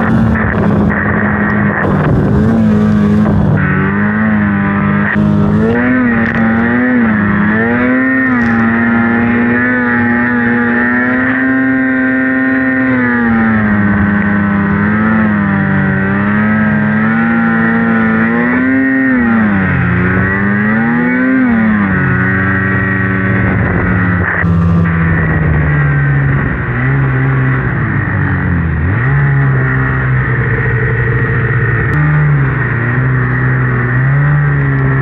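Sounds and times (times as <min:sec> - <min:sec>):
snowmobile engine revving: 0:00.0 - 0:35.0.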